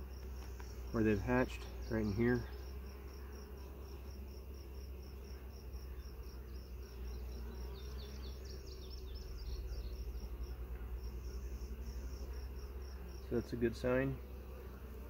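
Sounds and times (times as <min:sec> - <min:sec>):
high insect chirp: 0:00.0 - 0:15.0
honey bees buzzing: 0:00.0 - 0:15.0.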